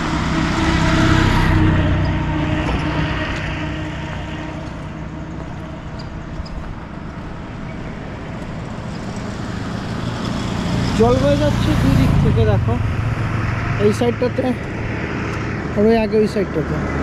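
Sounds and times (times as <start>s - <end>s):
vehicle engine passing by: 0.0s - 6.4s, 7.2s - 17.0s
steady rushing noise: 0.0s - 17.0s.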